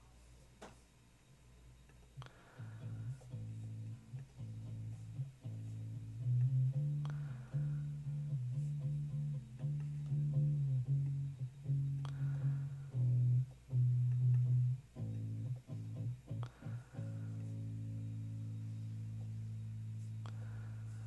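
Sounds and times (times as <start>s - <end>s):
plucked bass guitar notes: 2.6s - 21.0s.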